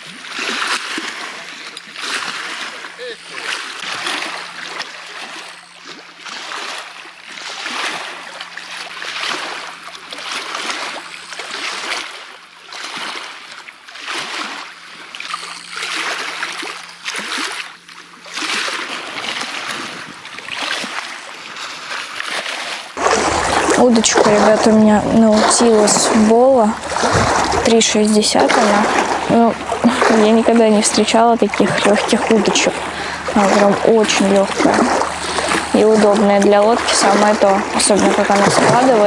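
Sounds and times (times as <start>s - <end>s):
waves splashing against boat: 0.0s - 39.0s.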